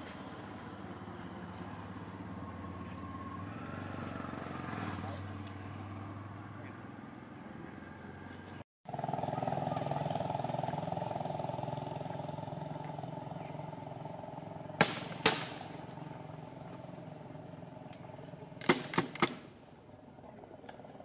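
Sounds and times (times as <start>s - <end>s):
vehicle engine droning: 0.0s - 21.0s.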